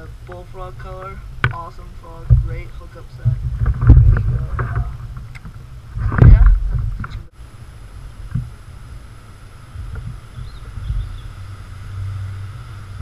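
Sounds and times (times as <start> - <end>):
wind buffeting microphone: 0.0 - 7.3, 8.1 - 13.0.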